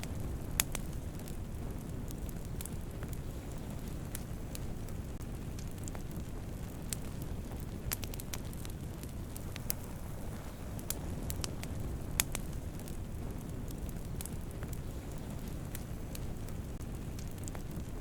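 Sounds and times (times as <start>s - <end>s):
crackles and pops of burning wood: 0.0s - 18.0s
wood fire burning: 0.0s - 18.0s.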